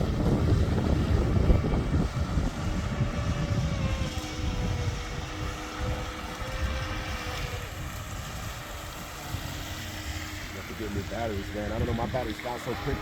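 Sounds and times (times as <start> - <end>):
distant electric boat whine: 0.0 - 13.0
wind rumble on microphone: 0.0 - 13.0.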